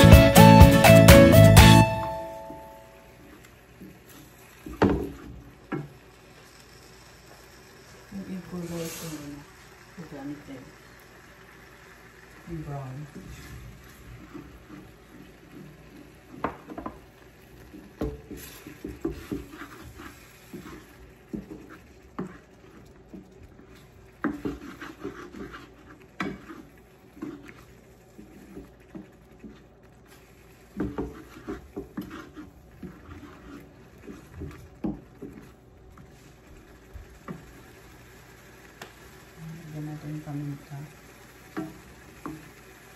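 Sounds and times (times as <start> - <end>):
wooden spatula scraping a pan: 3.2 - 42.9.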